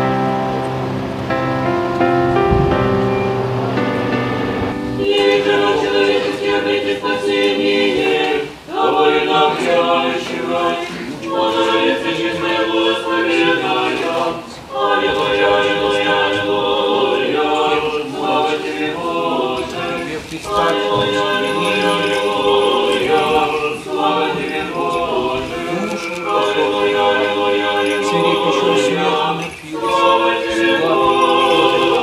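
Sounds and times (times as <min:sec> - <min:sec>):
unaccompanied choir singing: 0:00.0 - 0:32.0.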